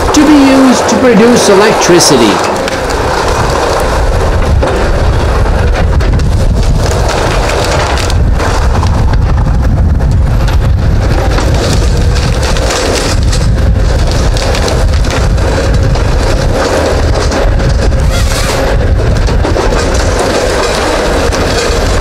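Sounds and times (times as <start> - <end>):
wood cracking and splintering: 2.4 - 22.0.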